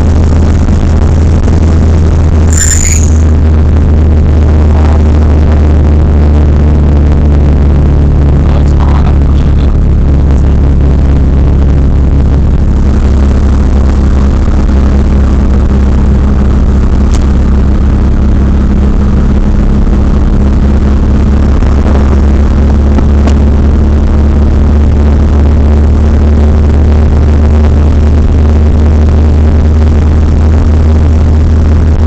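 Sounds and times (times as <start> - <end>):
car engine droning: 0.0 - 32.0
road noise: 0.0 - 32.0.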